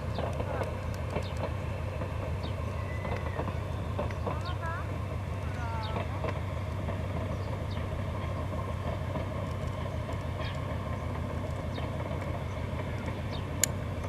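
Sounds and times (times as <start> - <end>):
diesel locomotive engines running: 0.0 - 14.0.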